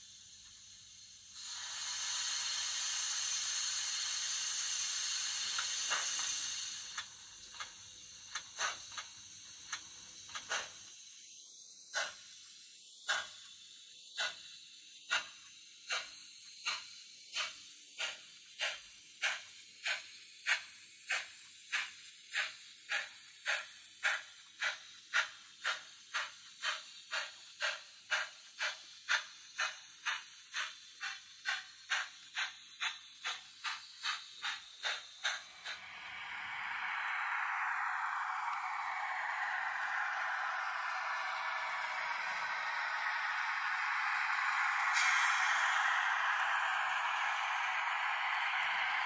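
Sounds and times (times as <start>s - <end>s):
steam hissing: 0.0s - 49.0s
steam locomotive chuffing: 0.0s - 49.0s.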